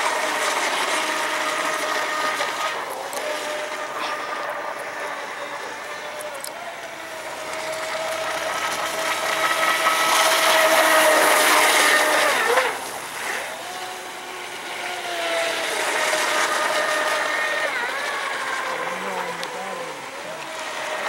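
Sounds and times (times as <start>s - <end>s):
electric boat motor whine: 0.0s - 21.0s.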